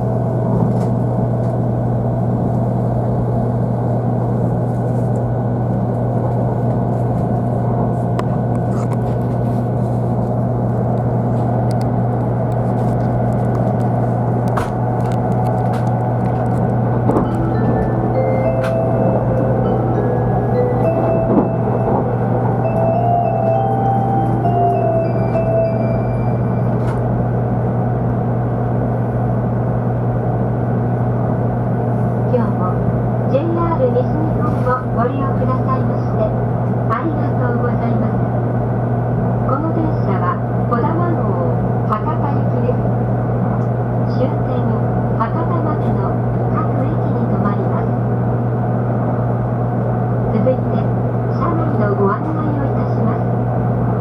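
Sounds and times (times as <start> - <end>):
train cabin low hum: 0.0 - 54.0.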